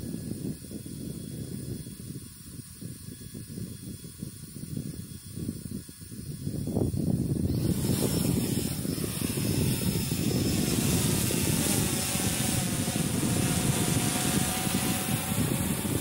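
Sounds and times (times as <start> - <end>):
drone propeller whir: 0.0 - 16.0.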